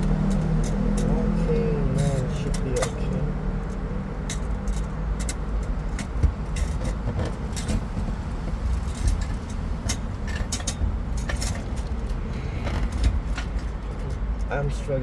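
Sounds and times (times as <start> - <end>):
light clicks and taps of parts: 0.0 - 14.6.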